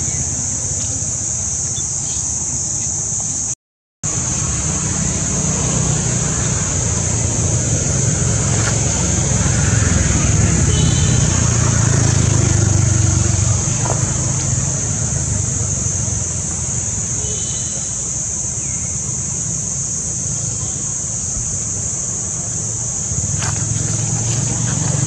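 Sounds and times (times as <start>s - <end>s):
steady high hiss: 0.0s - 25.0s
low engine-like hum: 4.1s - 25.0s.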